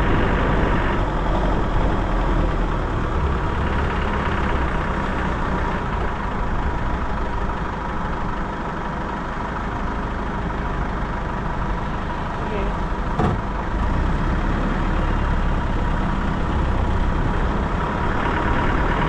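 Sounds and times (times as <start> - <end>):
car engine running at low revs: 0.0 - 19.0.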